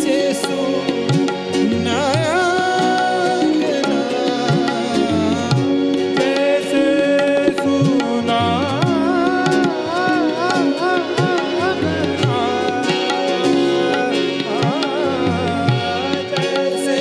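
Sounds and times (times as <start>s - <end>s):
harmonium chords: 0.0s - 17.0s
man singing ornamented melody: 0.0s - 17.0s
tabla drumming: 0.0s - 17.0s.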